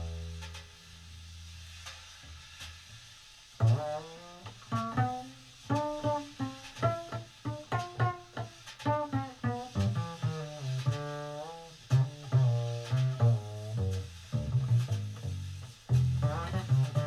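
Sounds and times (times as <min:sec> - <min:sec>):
plucked double bass solo: 0:00.0 - 0:01.5, 0:03.6 - 0:17.0.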